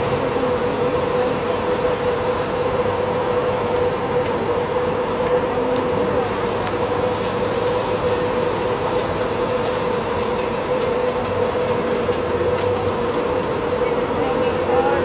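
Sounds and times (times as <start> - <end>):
mechanical drone with hum: 0.0 - 15.0.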